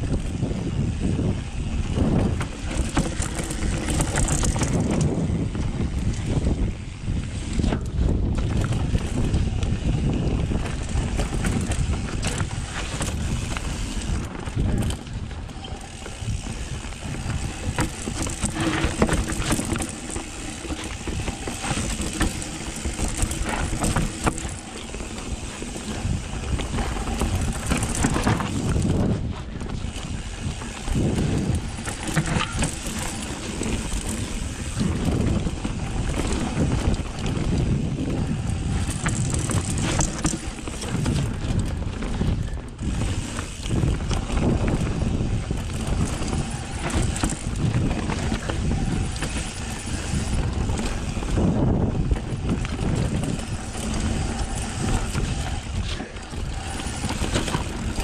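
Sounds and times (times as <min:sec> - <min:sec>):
bike rattling clatter: 0:00.0 - 0:58.0
bike tyres on dirt: 0:00.0 - 0:58.0.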